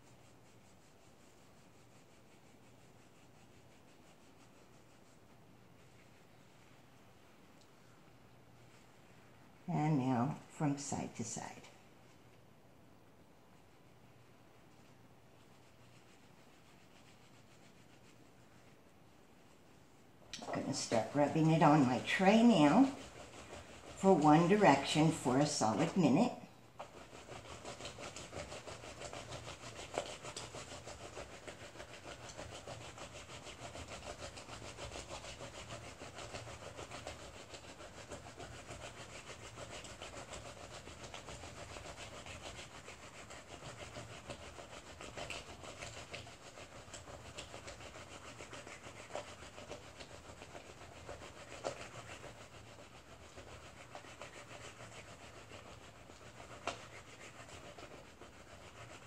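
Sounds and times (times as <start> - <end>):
soap scrubbing on wet tray: 0.0 - 8.0, 13.7 - 59.0.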